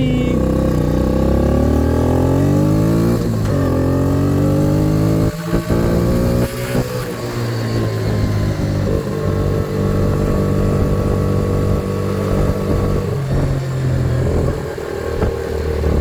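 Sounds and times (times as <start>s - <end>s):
quad engine running: 0.0s - 16.0s.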